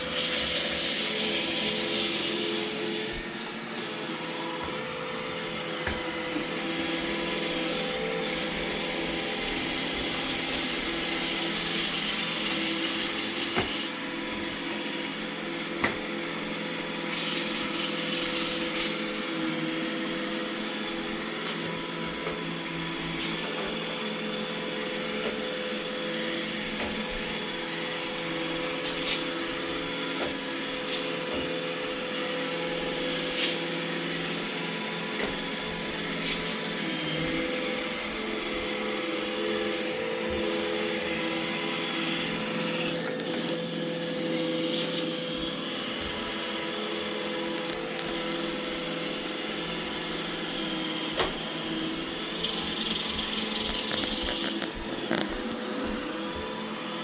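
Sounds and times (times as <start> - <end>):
robot vacuum whirring: 0.0 - 57.0.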